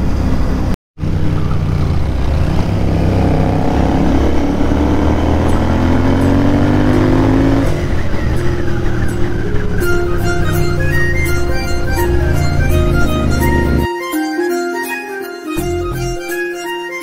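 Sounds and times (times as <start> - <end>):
motorcycle engine accelerating: 0.0 - 13.9.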